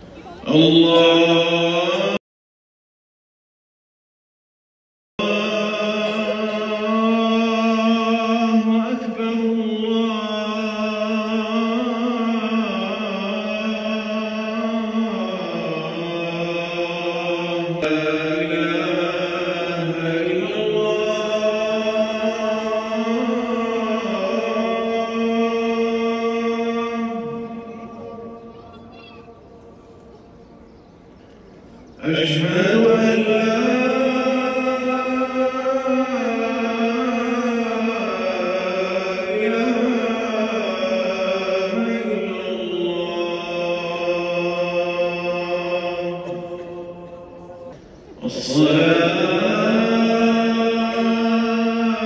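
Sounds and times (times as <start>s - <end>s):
person chanting unaccompanied: 0.1s - 2.2s, 5.2s - 30.2s, 31.9s - 52.0s.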